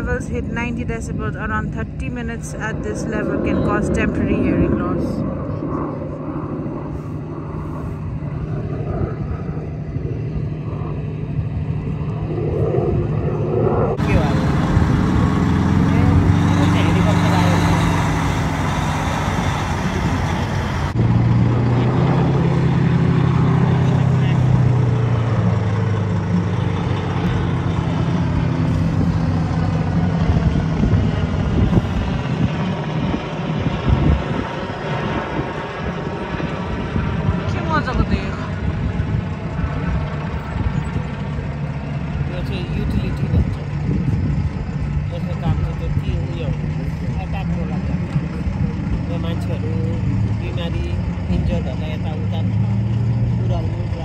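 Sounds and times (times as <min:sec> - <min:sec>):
aircraft engines rumbling: 0:00.0 - 0:54.0
rushing fluttering noise: 0:00.0 - 0:54.0.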